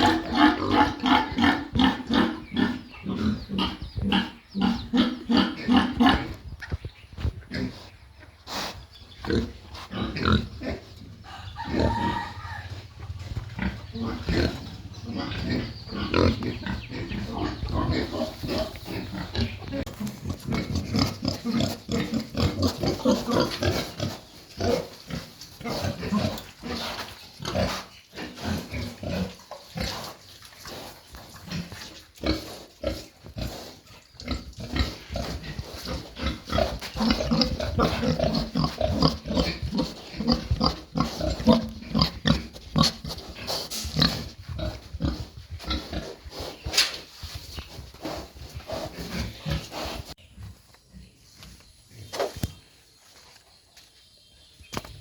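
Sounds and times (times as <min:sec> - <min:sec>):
pigs grunting: 0:00.0 - 0:06.4, 0:07.4 - 0:46.8.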